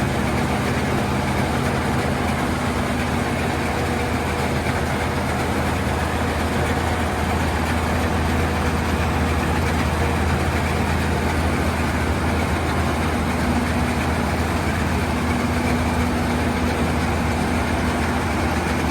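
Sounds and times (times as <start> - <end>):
diesel engine low hum: 0.0 - 18.9.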